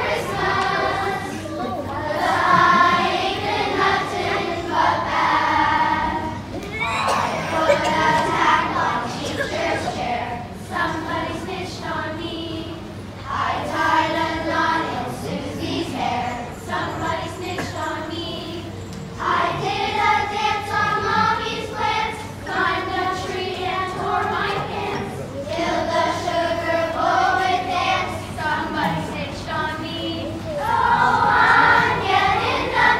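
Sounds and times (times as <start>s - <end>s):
children's choir singing: 0.0s - 32.9s.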